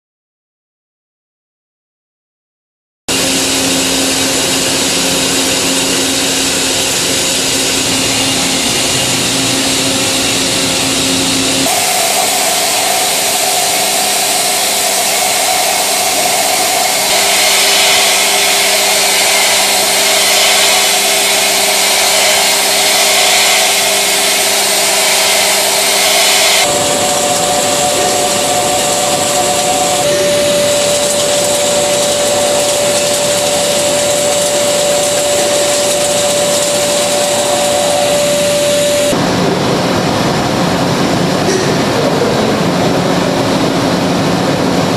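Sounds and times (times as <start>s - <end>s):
machine cutting metal: 3.1s - 40.3s.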